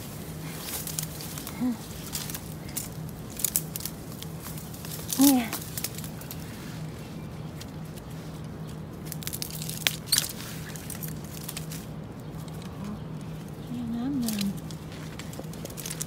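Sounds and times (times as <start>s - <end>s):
bamboo leaves rustling and crackling: 0.0s - 16.0s
low hum: 0.0s - 16.0s
bamboo stems snapping: 0.4s - 6.5s, 7.5s - 13.0s, 14.2s - 16.0s.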